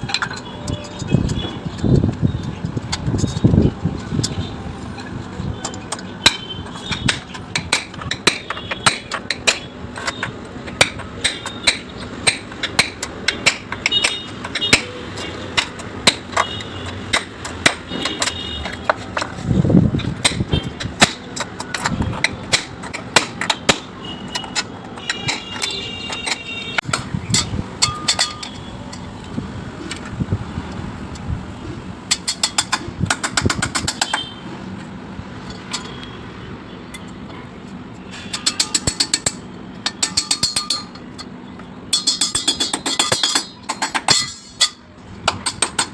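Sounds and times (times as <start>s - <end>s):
tools knocking and tapping on metal: 0.0s - 29.1s, 32.0s - 34.4s, 35.4s - 36.1s, 38.1s - 45.9s
steady background noise: 0.0s - 45.9s.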